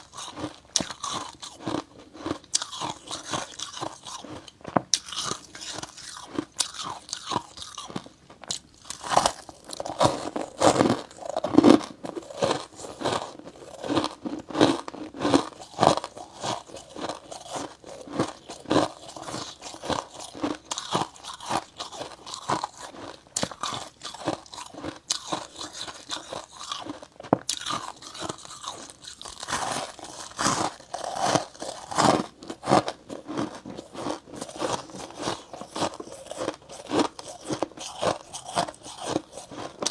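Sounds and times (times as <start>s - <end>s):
chewing crunchy ice frost: 0.0s - 39.9s.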